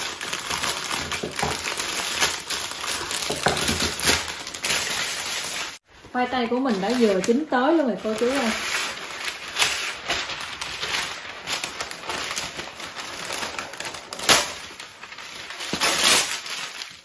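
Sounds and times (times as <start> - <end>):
baking paper rustling and crinkling: 0.0 - 17.0.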